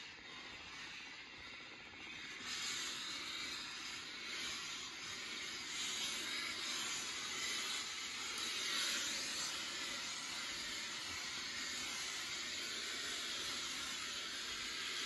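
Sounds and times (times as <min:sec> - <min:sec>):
garment steamer hissing: 0:00.0 - 0:15.0.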